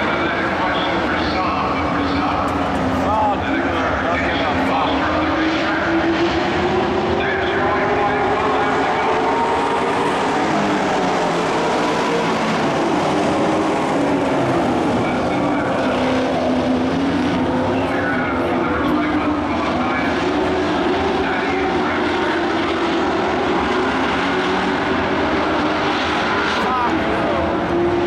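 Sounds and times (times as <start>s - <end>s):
race truck engines droning: 0.0s - 28.0s.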